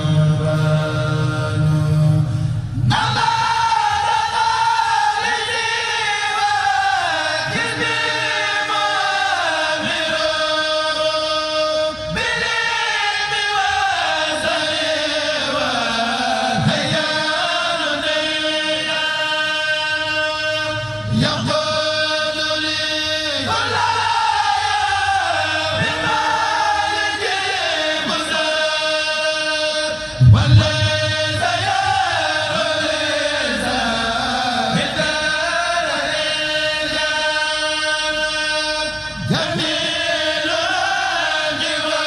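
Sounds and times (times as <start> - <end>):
voices chanting together: 0.0 - 42.0.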